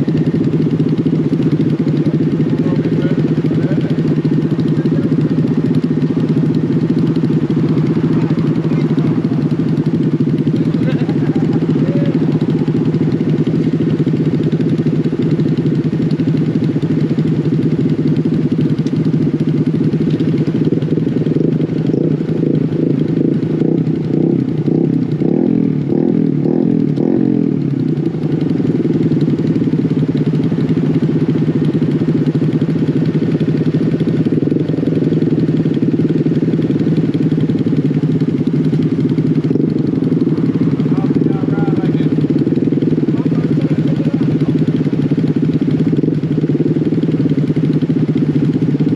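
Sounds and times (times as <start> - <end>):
mini bike engine running: 0.0 - 48.9.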